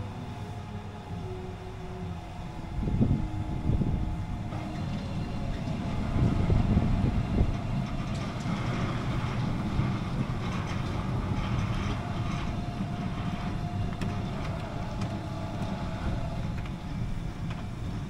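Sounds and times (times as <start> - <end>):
faint steady whine: 0.0 - 18.0
roller coaster rumbling on track: 0.0 - 18.0.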